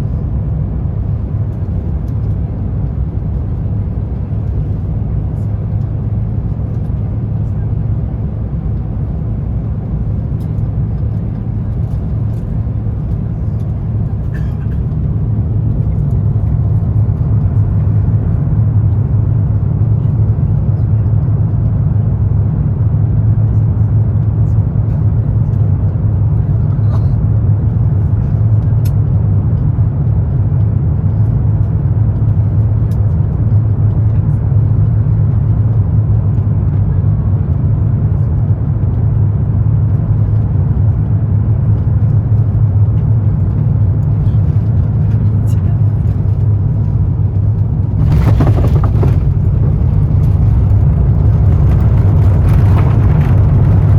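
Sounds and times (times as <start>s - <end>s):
aircraft engine drone: 0.0s - 21.1s, 30.5s - 53.9s.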